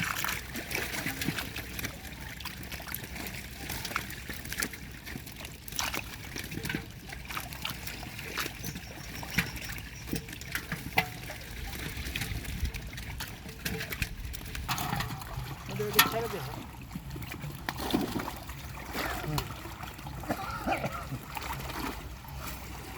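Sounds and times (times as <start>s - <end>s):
pond water trickling and splashing: 0.0s - 22.9s.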